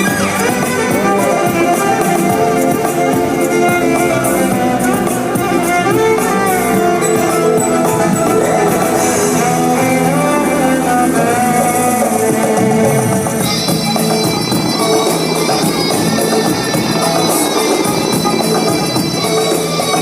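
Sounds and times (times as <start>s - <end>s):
loud melodic music: 0.0s - 20.0s.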